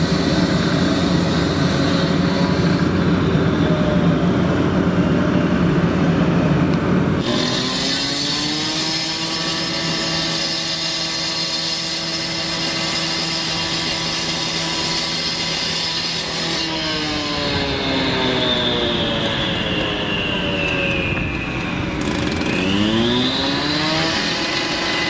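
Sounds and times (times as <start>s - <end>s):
high whine: 0.0s - 25.0s.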